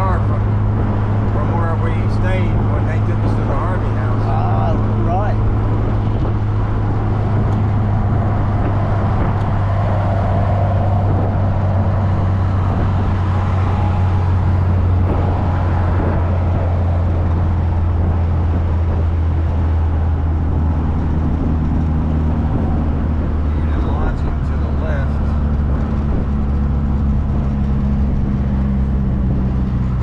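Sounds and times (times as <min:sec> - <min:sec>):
car engine droning: 0:00.0 - 0:30.0
tyre and wind noise: 0:00.0 - 0:30.0.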